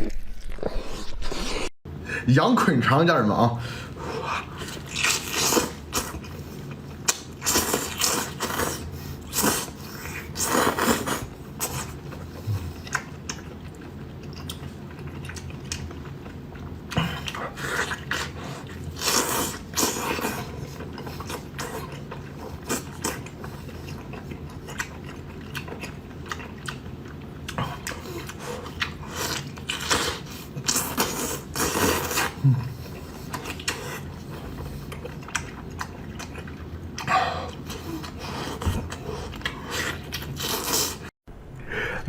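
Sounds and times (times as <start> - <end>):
person chewing food: 4.2 - 41.1.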